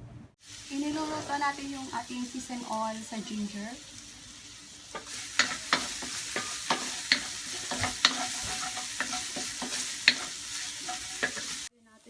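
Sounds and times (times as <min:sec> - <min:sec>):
ginger sizzling in oil: 0:00.4 - 0:11.7
spatula scraping a pan: 0:00.8 - 0:11.7.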